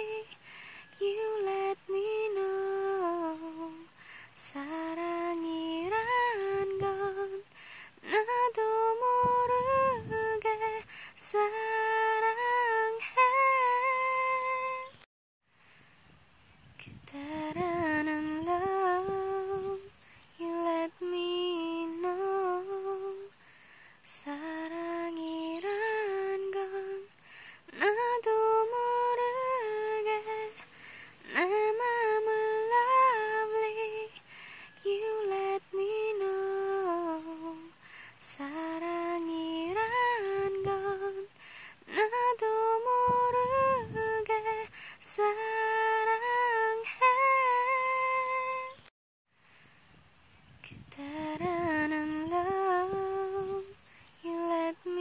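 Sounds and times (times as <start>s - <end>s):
woman singing gentle melody: 0.0s - 15.1s, 16.7s - 48.9s, 50.6s - 55.0s.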